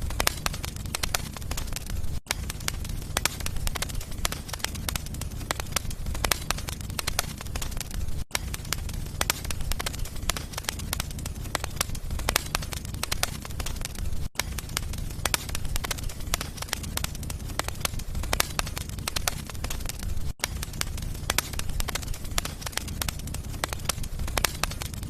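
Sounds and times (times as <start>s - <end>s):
fire crackling in fireplace: 0.0s - 25.0s.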